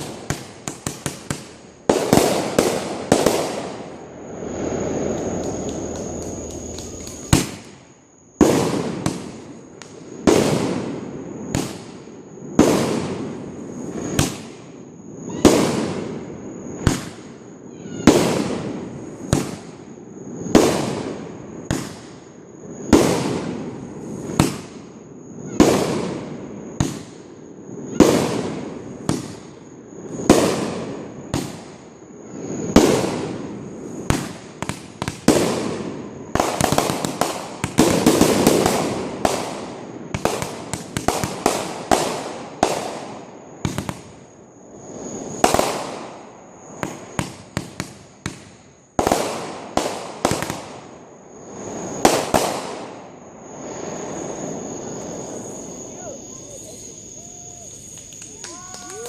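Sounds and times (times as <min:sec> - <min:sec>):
crackling firework pops: 0:00.0 - 0:04.0, 0:04.9 - 0:31.9, 0:32.6 - 0:44.3, 0:45.3 - 0:51.0, 0:51.9 - 0:53.1, 0:57.8 - 0:59.0
fireworks bangs with rumble: 0:00.0 - 0:04.0, 0:04.6 - 0:07.8, 0:08.4 - 0:31.9, 0:32.5 - 0:44.3, 0:45.3 - 0:51.0.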